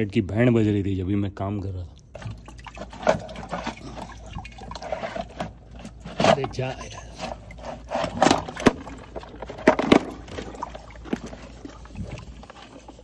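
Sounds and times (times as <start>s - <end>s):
water sloshing: 2.0s - 13.0s
pump knocking against basin: 2.2s - 13.0s.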